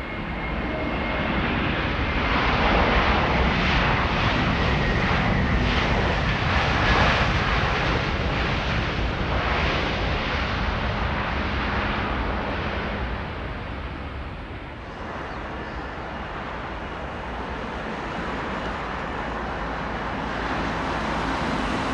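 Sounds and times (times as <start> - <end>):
jet airliner engines roaring: 0.0 - 21.9.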